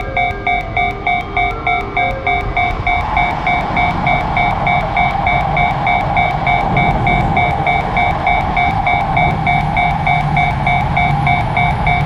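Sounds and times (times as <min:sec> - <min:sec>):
railroad crossing electronic bell: 0:00.0 - 0:12.0
train passing: 0:00.0 - 0:12.0.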